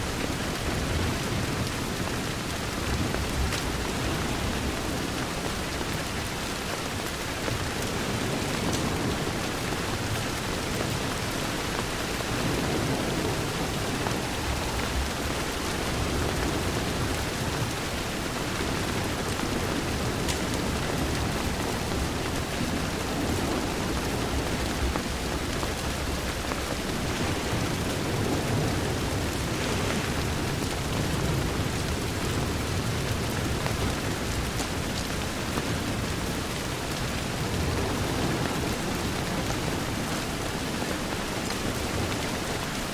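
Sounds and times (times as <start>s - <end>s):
rain against a window: 0.0s - 42.9s.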